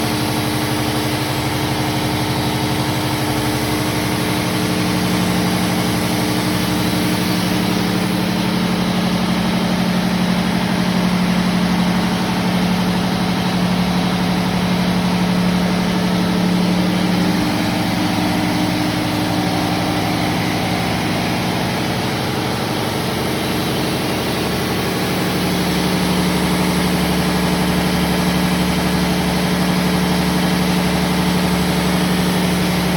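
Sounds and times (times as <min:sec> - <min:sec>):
engine room machinery droning: 0:00.0 - 0:32.9.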